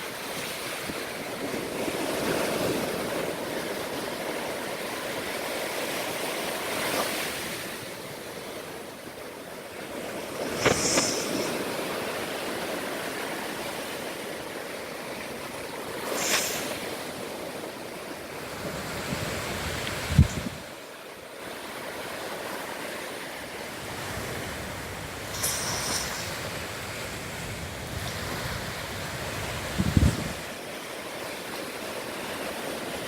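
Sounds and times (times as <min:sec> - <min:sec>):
ocean surf washing onto beach: 0:00.0 - 0:33.0
waves breaking: 0:00.0 - 0:33.0.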